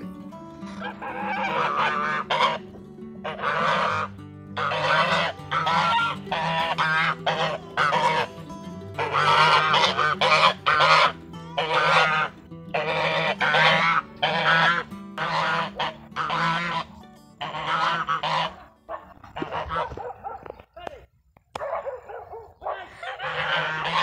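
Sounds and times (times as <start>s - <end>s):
geese honking: 0.5s - 20.7s, 22.8s - 24.0s.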